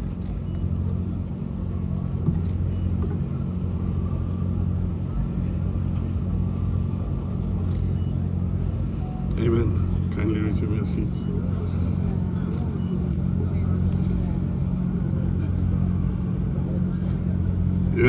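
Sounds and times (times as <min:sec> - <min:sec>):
low hum with rumble: 0:00.0 - 0:18.0.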